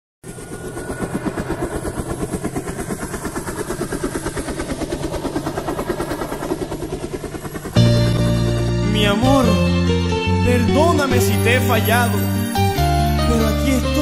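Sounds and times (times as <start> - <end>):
helicopter rotor chop: 0.2 - 14.0
low engine drone: 0.2 - 14.0.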